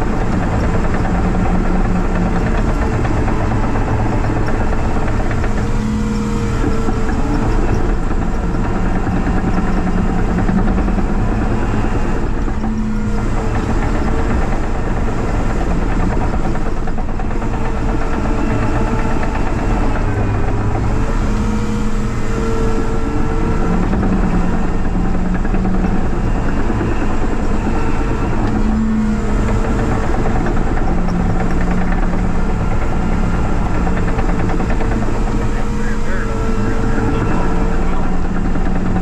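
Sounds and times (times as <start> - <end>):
loader diesel engine running: 0.0 - 39.0.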